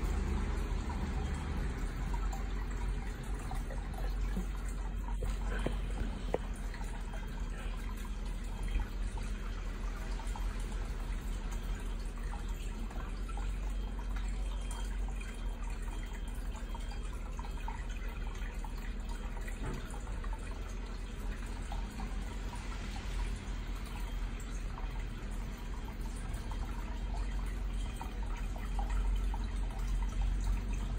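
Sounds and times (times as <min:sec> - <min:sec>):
water trickling and dripping: 0:00.0 - 0:30.9.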